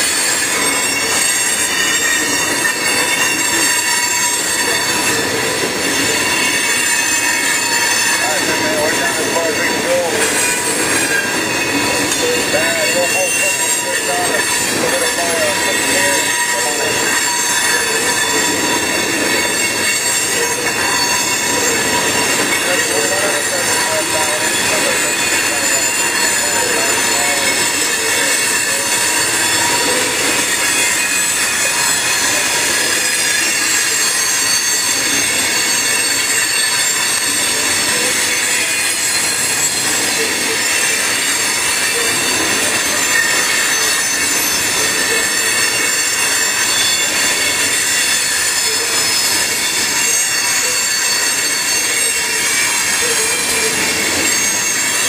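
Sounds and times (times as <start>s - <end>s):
steel wheels squealing on rails: 0.0s - 55.0s
train rumbling: 0.0s - 55.0s.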